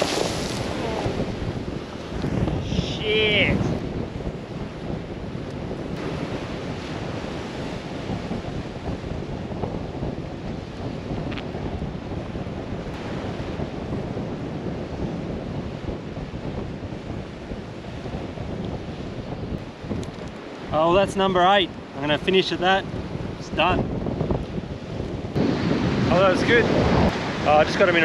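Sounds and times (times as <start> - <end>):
surf washing on rocks: 0.0 - 28.0
wind buffeting microphone: 0.0 - 28.0.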